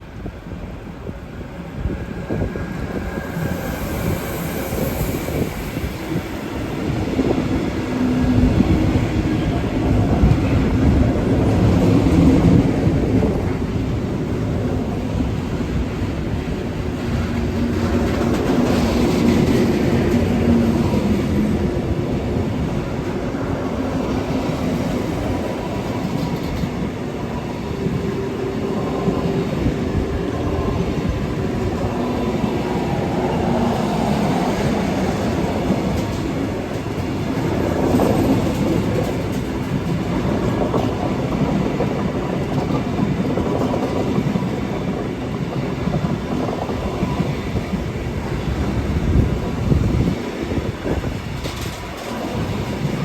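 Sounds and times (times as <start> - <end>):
train drone: 0.0 - 53.0
train wheels clattering on rails: 1.9 - 53.0.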